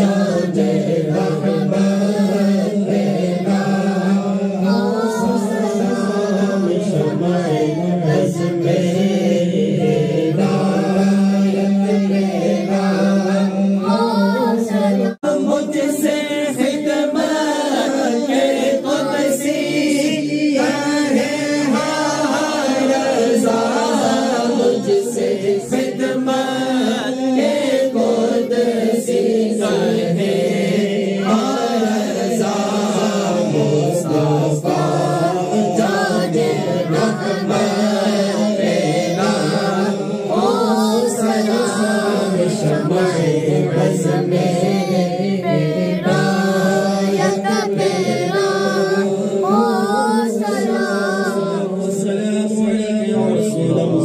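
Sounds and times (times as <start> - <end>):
man leading chant on microphone: 0.0 - 54.0
men singing a chant: 0.0 - 54.0.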